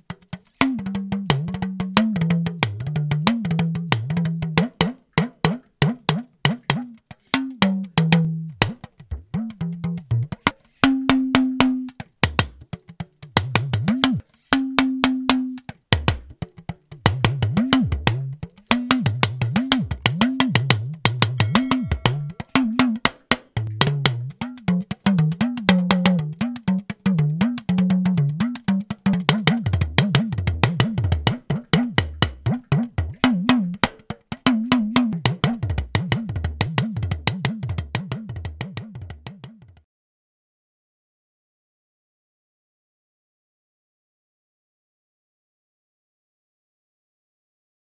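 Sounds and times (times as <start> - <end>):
talking drum rhythm: 0.0 - 39.8.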